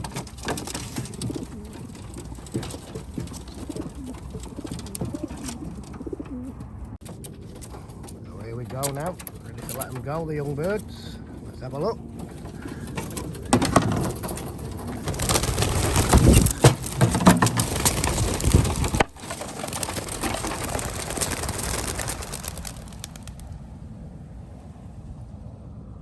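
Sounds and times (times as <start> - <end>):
pigeon wingbeats clattering: 0.0 - 10.9, 12.1 - 23.6.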